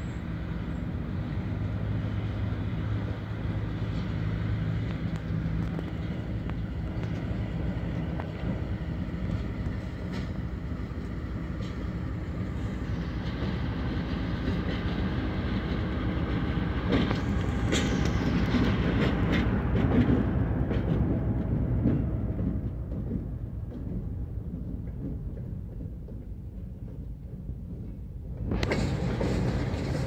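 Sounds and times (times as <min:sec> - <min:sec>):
diesel locomotive running: 0:00.0 - 0:30.0
freight cars rolling: 0:00.0 - 0:30.0
wheels clicking over rail joints: 0:02.9 - 0:30.0.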